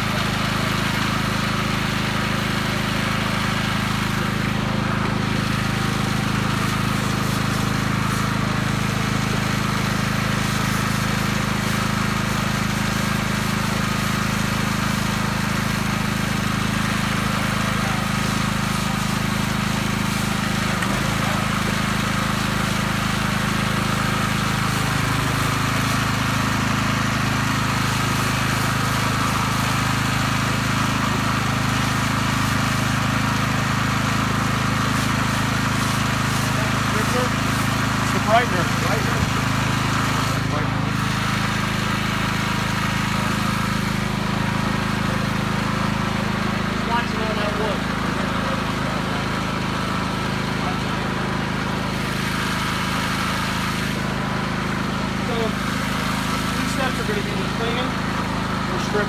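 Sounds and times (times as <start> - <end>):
small gasoline engine running: 0.0 - 59.0.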